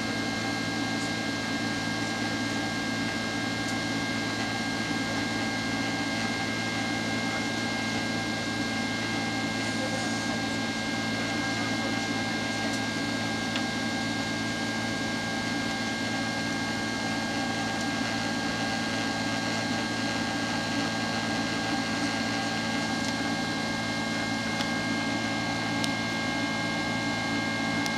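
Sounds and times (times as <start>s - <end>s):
jet engines droning: 0.0s - 27.9s.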